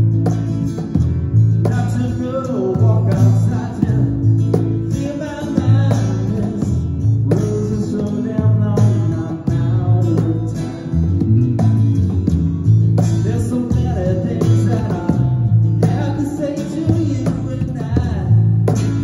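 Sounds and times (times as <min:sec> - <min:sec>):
cajon tapping a beat: 0:00.0 - 0:19.0
electric bass low notes: 0:00.0 - 0:19.0
strummed acoustic guitar: 0:00.0 - 0:19.0.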